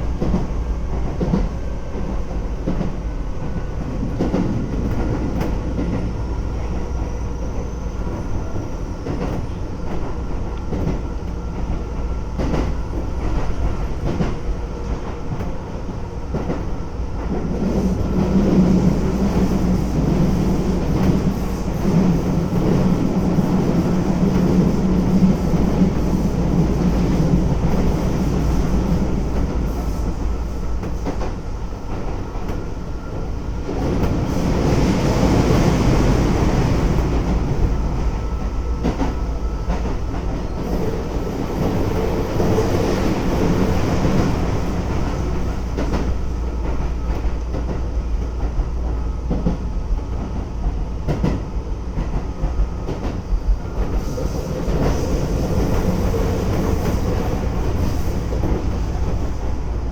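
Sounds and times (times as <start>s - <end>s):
train wheels and motors rumbling: 0.0s - 59.9s.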